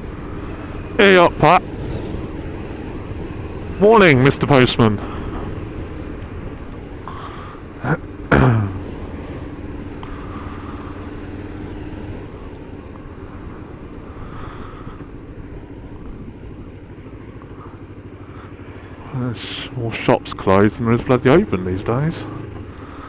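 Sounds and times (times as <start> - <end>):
motorcycle engine running at low revs: 0.0 - 23.0.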